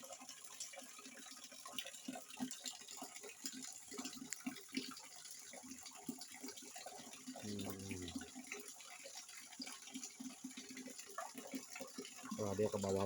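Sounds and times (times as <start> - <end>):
rainwater dripping and trickling: 0.0 - 13.0.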